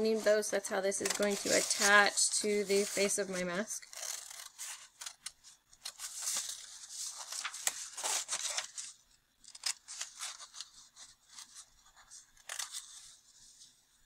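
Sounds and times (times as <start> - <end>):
paper rustling: 1.0 - 13.8.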